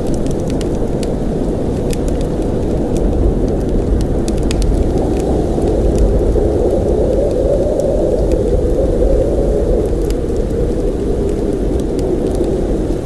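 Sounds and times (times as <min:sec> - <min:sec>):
blizzard wind blowing: 0:00.0 - 0:13.0
faint ticks and clicks: 0:00.0 - 0:13.0.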